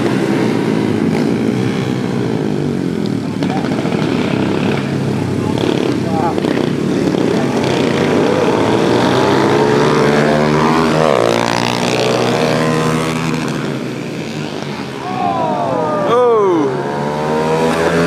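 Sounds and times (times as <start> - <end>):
pit bikes revving past: 0.0 - 18.0.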